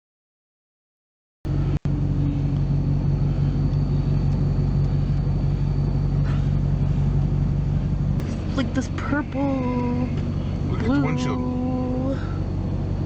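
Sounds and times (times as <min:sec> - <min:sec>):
car cabin engine and road rumble: 0:01.5 - 0:13.0.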